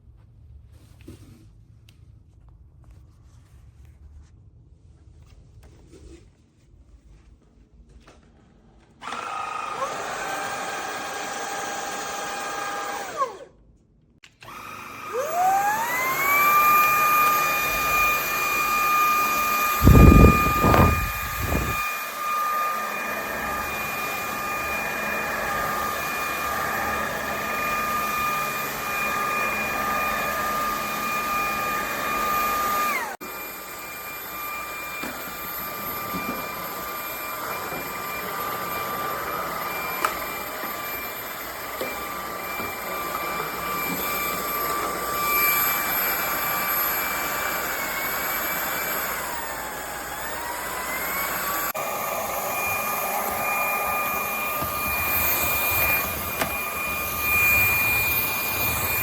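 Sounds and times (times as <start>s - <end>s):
vacuum motor whine: 9.0s - 13.6s, 14.3s - 59.0s.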